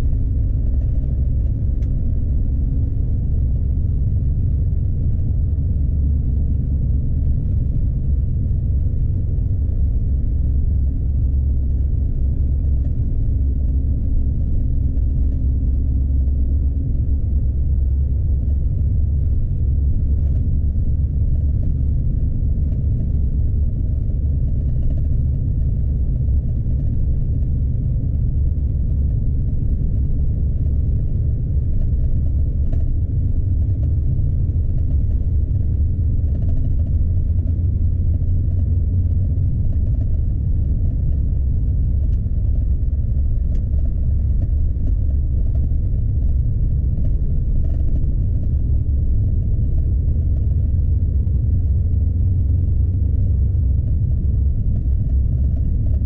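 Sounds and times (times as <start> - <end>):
truck diesel engine rumble: 0.0 - 56.0.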